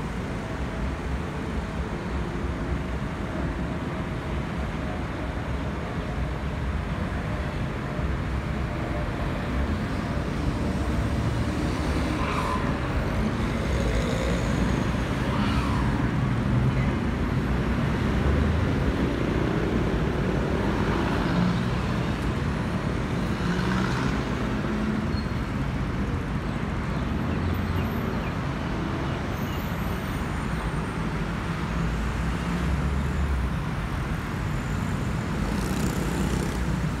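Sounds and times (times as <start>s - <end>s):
road traffic: 0.0s - 37.0s.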